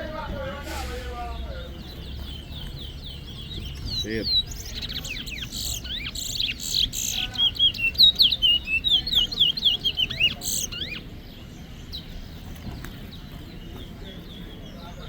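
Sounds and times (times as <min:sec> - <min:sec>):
finch singing sharp chirps: 0:01.0 - 0:15.0.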